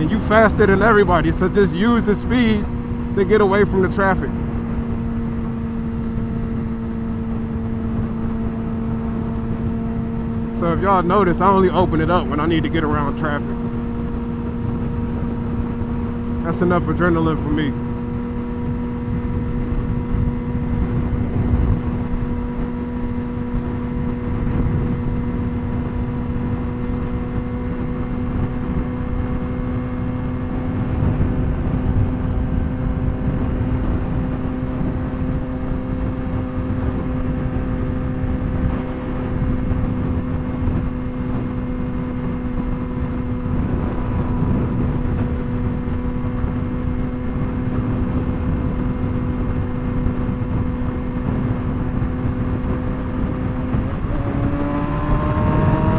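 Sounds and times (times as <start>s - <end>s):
motorcycle engine cruising: 0.0s - 55.9s
wind buffeting microphone: 0.0s - 55.9s.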